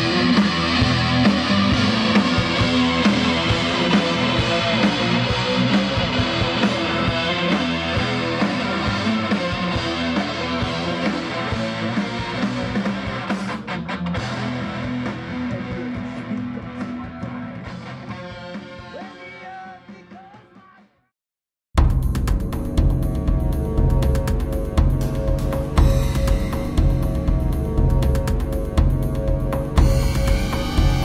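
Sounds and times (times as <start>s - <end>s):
rock music with electric guitar: 0.0s - 20.6s, 22.1s - 31.0s.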